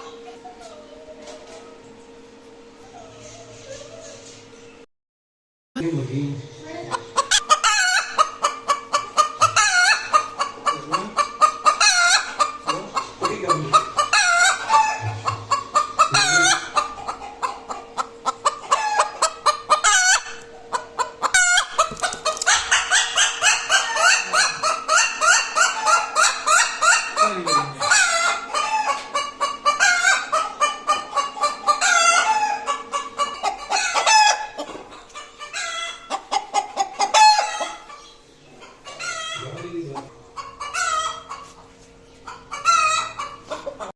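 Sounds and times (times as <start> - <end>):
hen cackling and squawking: 6.8 - 43.9.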